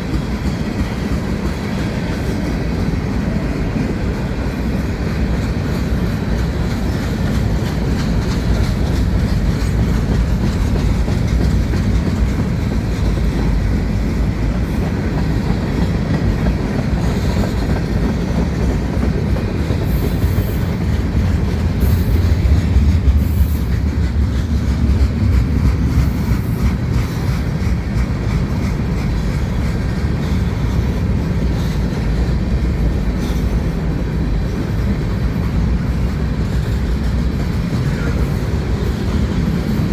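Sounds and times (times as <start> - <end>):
freight train cars rumbling: 0.0 - 39.9
wheels clattering over rail joints: 0.0 - 39.9.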